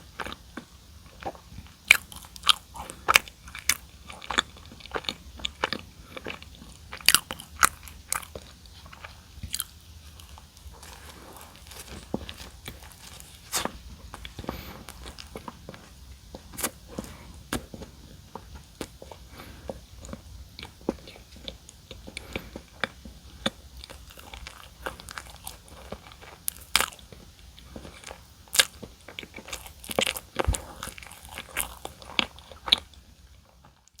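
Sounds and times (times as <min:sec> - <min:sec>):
chewing with crisp crunches: 0:00.0 - 0:34.0.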